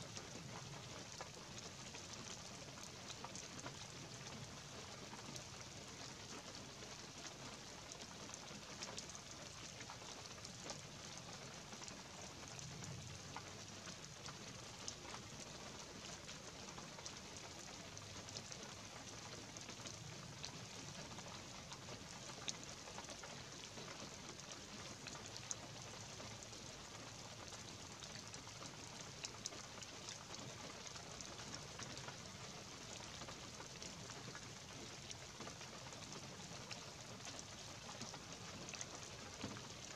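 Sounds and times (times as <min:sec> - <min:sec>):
raindrops ticking: 0:00.0 - 0:39.9.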